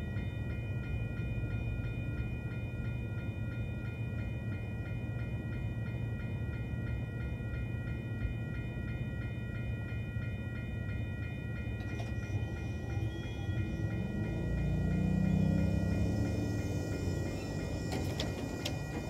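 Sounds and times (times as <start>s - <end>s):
electronic crossing bell ringing: 0.0s - 19.0s
freight train rumbling past: 0.0s - 19.0s.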